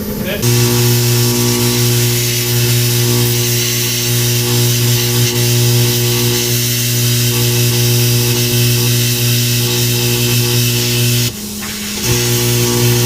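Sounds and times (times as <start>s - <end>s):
plasma cutter buzzing and hissing: 0.0s - 13.0s.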